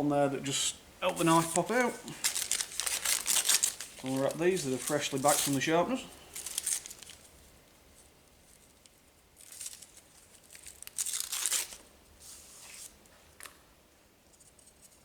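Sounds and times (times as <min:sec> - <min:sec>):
wrapping rustling and crinkling: 0:01.0 - 0:13.5.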